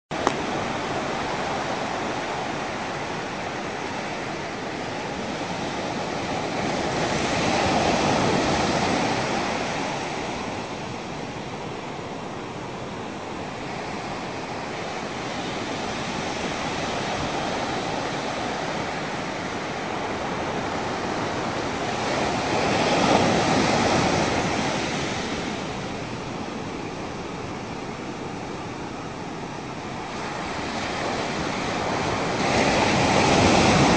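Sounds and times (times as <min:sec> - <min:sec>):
ocean waves breaking: 0:00.1 - 0:33.9.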